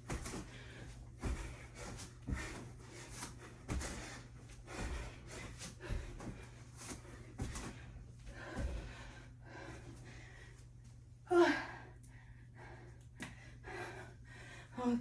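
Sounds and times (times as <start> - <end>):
woman panting: 0.1 - 10.7, 11.3 - 15.0.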